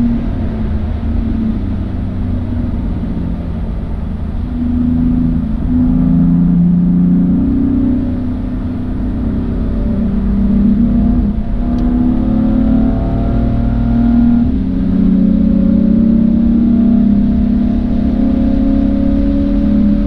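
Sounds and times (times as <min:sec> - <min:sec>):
car engine running under load: 0:00.0 - 0:20.0.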